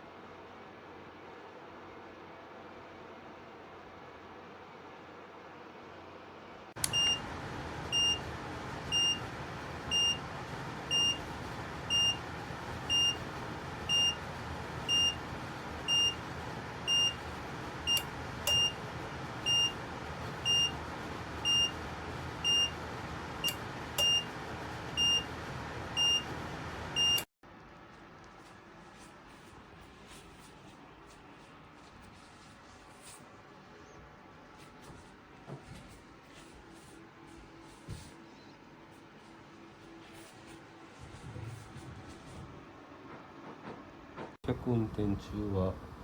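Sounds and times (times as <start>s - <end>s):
fan heater running: 0.0s - 46.0s.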